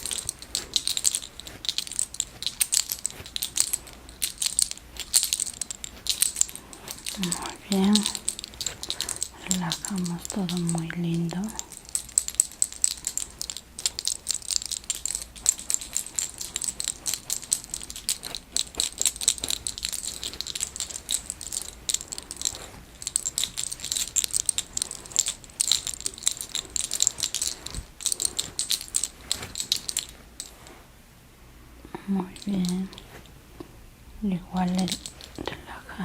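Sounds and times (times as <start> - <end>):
fingers rubbing through hair: 0.0 - 30.9, 32.0 - 36.0.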